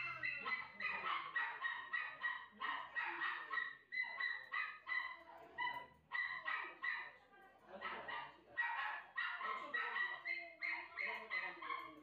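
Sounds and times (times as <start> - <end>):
puppy yipping: 0.0 - 7.2, 7.8 - 12.0.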